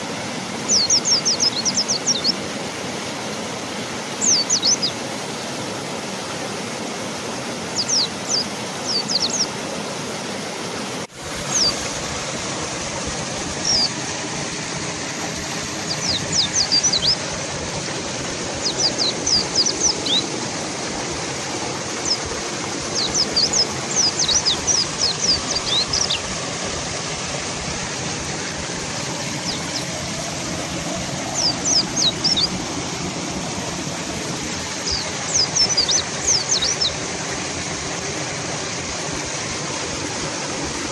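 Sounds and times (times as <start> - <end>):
river water rushing: 0.0 - 40.9
birds chirping: 0.6 - 2.5, 4.1 - 5.1, 7.6 - 9.6, 11.4 - 40.9.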